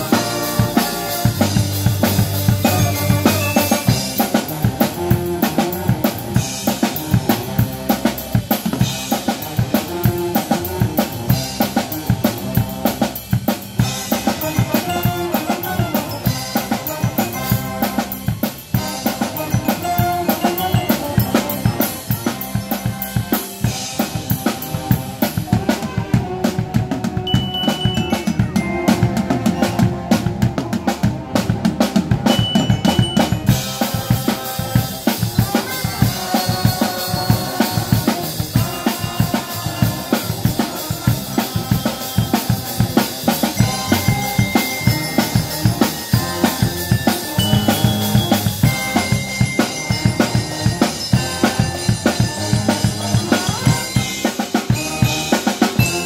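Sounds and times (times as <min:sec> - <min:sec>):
cymbals: 0:00.0 - 0:30.5, 0:31.8 - 0:56.0
pep band playing: 0:00.0 - 0:56.0.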